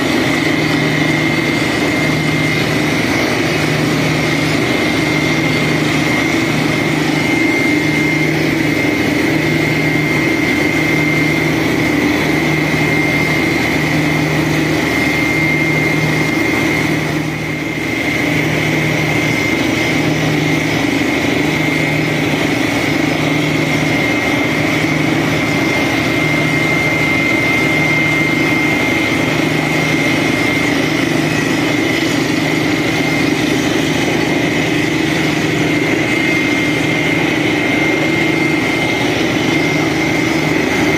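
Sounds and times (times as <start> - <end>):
steady high whine: 0.0 - 40.9.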